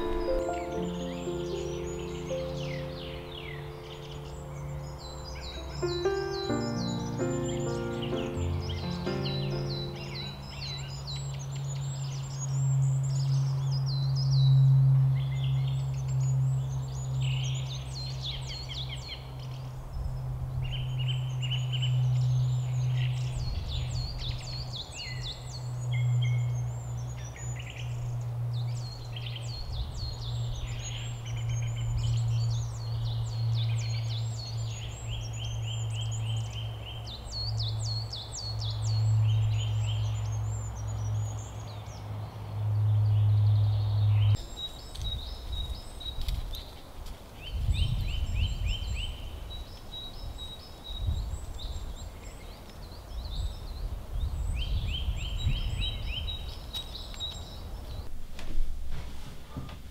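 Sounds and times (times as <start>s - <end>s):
songbirds chirping and trilling: 0.0s - 58.1s.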